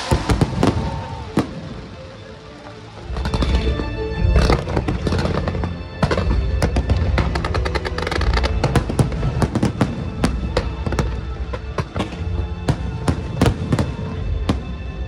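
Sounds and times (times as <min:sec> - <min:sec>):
fireworks bangs and crackles: 0:00.0 - 0:15.0
music: 0:00.0 - 0:15.0.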